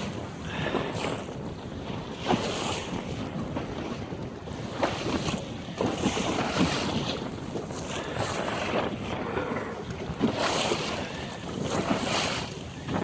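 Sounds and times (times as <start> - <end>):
water lapping against hull: 0.0 - 13.0
wind buffeting microphone: 0.0 - 13.0.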